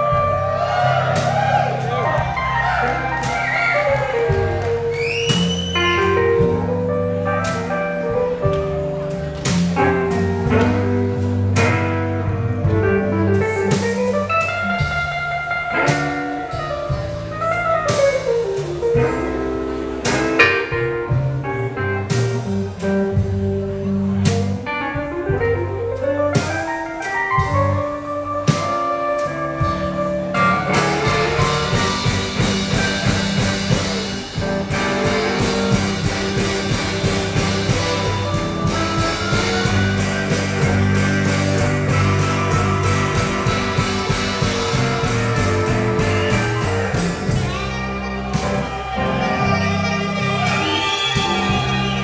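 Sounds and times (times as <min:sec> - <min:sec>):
electric guitar lead: 0:00.0 - 0:52.0
live blues band playing: 0:00.0 - 0:52.0.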